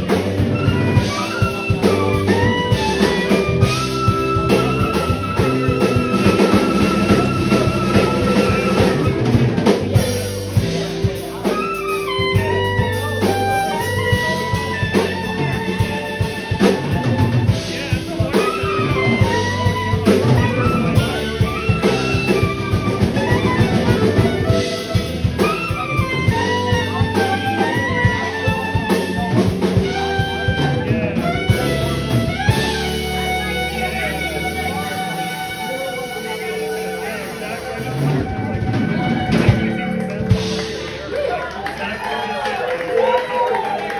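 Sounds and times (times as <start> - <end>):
drum kit beat: 0.0 - 41.4
saxophone melody: 0.0 - 41.4
electric bass: 0.0 - 43.9.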